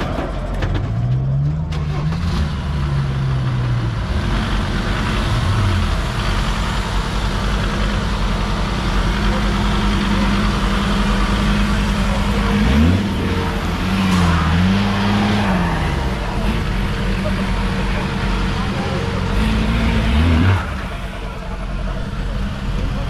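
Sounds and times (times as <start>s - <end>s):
off-road engine revving under load: 1.3s - 23.0s.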